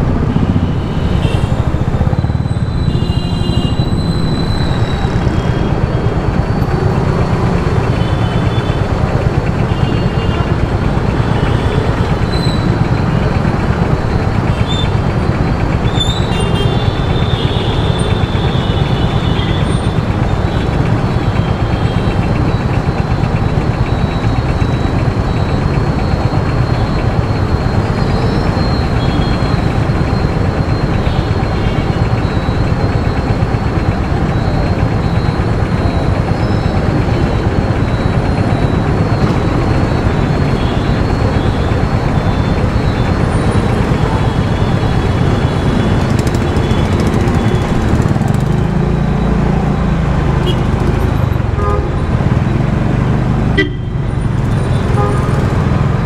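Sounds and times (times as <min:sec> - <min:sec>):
vehicle road and engine noise: 0:00.0 - 0:56.0.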